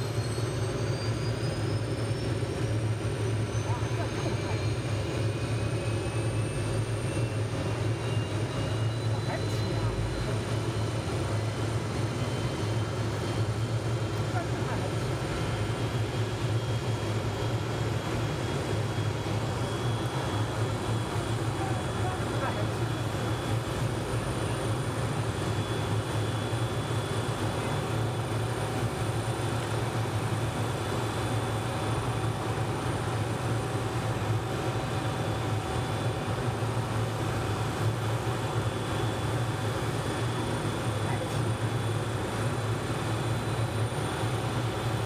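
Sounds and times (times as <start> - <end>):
helicopter rotor and engine drone: 0.0 - 45.0
high turbine whine: 0.0 - 45.0.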